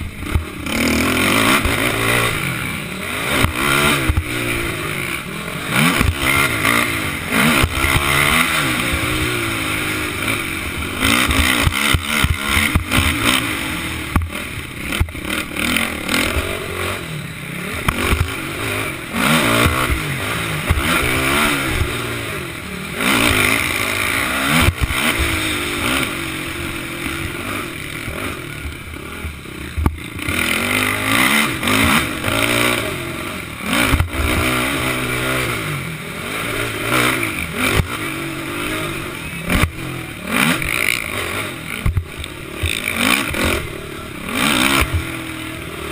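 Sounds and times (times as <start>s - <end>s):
quad engine revving: 0.0s - 45.9s.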